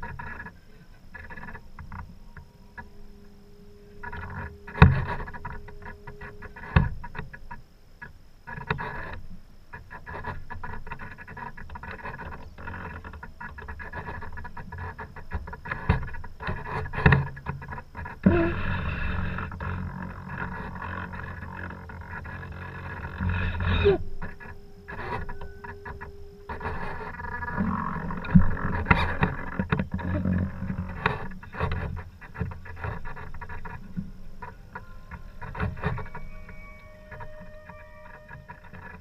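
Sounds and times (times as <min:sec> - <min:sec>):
wind: 0:00.0 - 0:39.0.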